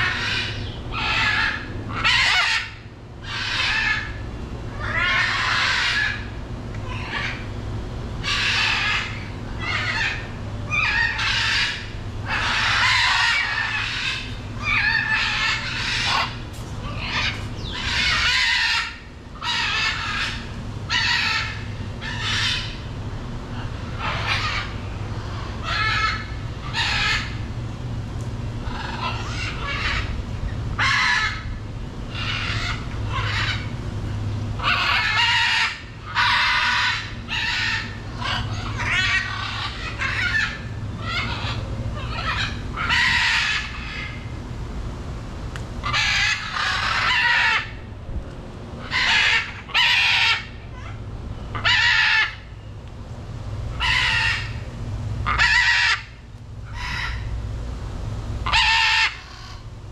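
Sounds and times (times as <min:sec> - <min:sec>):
macaws squawking and screeching: 0:00.0 - 0:07.6, 0:08.2 - 0:27.6, 0:28.5 - 0:30.2, 0:30.8 - 0:44.4, 0:45.8 - 0:48.0, 0:48.8 - 0:52.7, 0:53.7 - 0:57.5, 0:58.4 - 0:59.7
steady low hum: 0:00.0 - 0:59.9.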